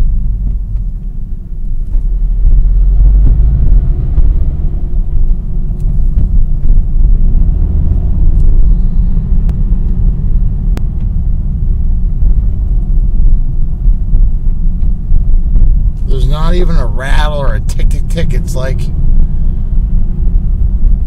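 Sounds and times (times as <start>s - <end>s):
car interior rumble: 0.0s - 21.0s.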